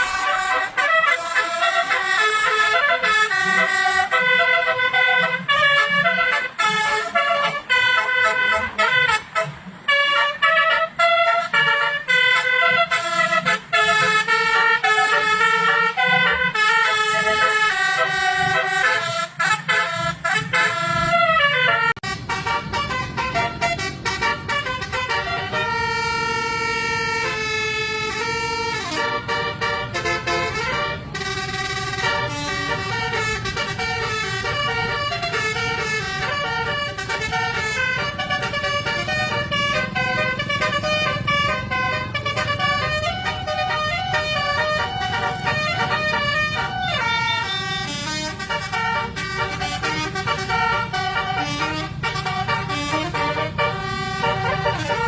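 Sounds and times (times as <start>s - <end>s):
low engine rumble: 0.0s - 55.0s
multi-tone bus horn melody: 0.0s - 55.0s.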